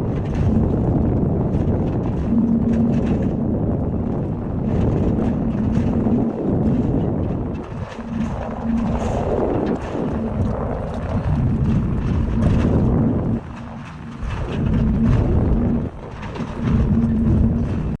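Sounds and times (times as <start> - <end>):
steady low hum: 0.0 - 18.0
vehicle noise: 1.9 - 18.0.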